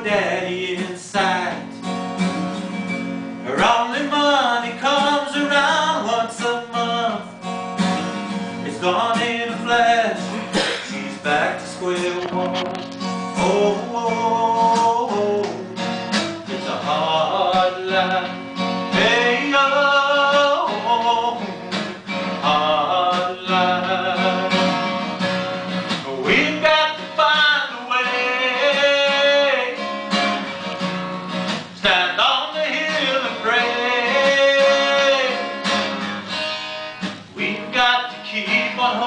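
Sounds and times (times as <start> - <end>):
man singing: 0.0 - 2.5, 3.4 - 7.5, 8.6 - 30.1, 31.7 - 35.8, 37.3 - 39.0
strummed acoustic guitar: 0.0 - 39.0.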